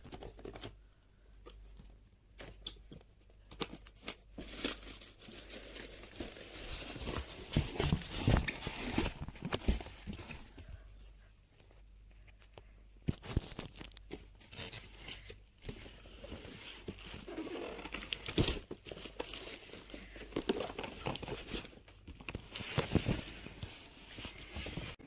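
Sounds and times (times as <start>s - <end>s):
crinkling and rustling: 0.0s - 25.0s.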